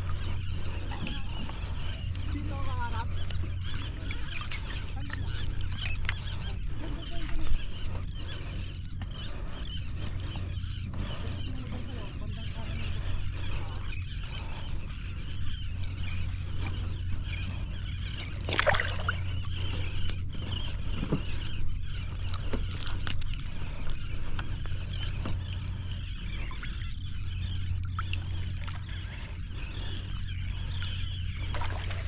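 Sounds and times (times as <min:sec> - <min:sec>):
steady low rumble: 0:00.0 - 0:32.0
water lapping against hull: 0:00.0 - 0:32.0.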